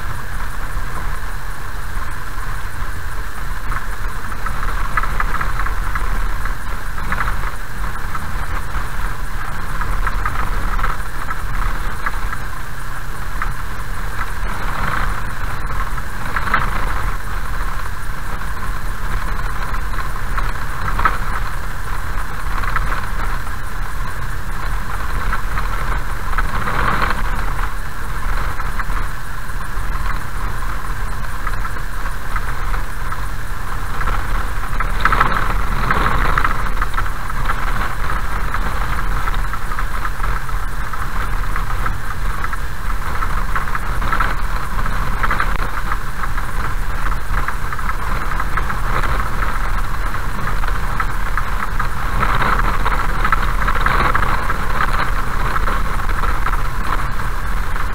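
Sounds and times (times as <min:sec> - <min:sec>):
car rumbling on gravel road: 0:00.0 - 0:57.9.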